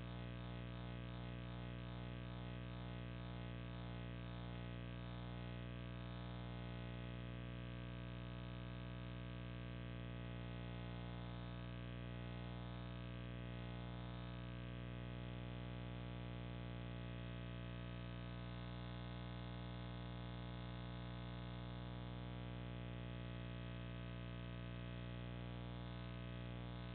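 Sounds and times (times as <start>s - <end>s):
steady electrical hum: 0.0s - 26.9s.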